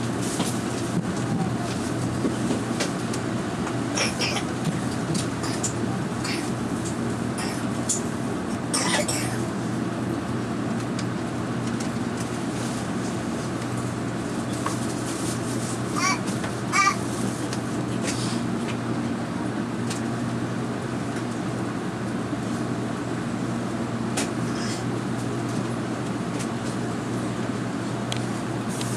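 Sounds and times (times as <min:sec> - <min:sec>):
train humming at platform: 0:00.0 - 0:28.9.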